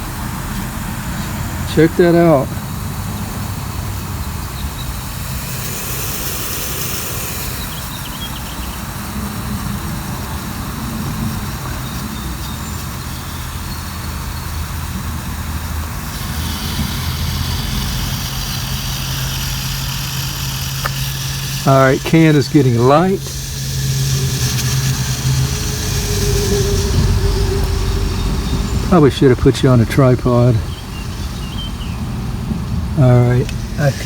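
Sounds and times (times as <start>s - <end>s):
aerosol inflator hissing: 0.0s - 34.0s
low engine-like hum: 0.0s - 34.0s.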